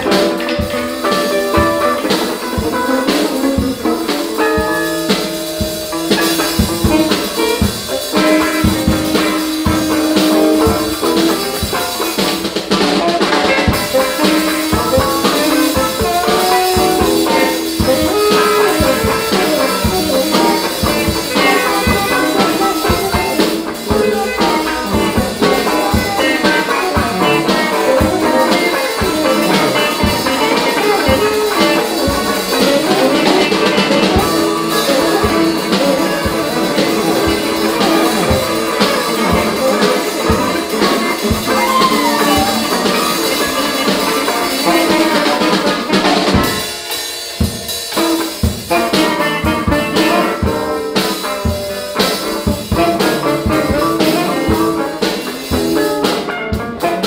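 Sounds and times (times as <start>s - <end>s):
drums keeping busy beat: 0.0s - 57.0s
jazz band playing: 0.0s - 57.0s.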